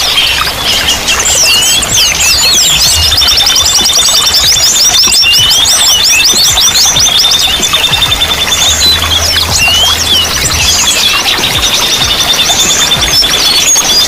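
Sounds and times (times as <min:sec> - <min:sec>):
fast repeated chirps: 0:00.0 - 0:14.0
songbirds chorus: 0:00.0 - 0:14.0.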